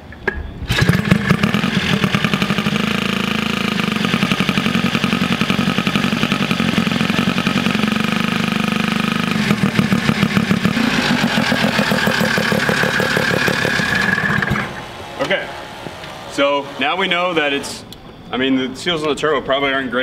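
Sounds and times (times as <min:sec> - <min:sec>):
rotary engine running: 0:00.7 - 0:17.8.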